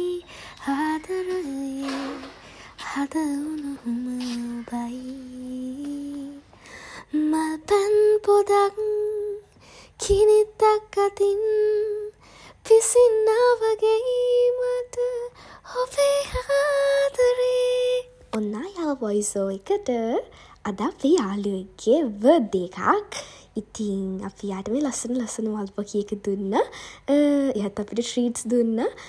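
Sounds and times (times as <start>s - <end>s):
woman singing: 0.0s - 29.0s.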